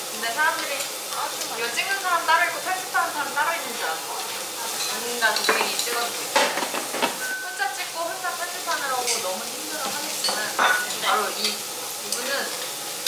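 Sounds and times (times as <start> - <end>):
food sizzling on a grill: 0.0 - 13.0.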